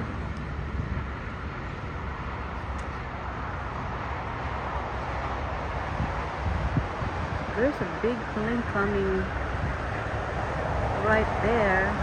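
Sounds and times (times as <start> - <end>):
distant jet engines rumbling: 0.0 - 12.0.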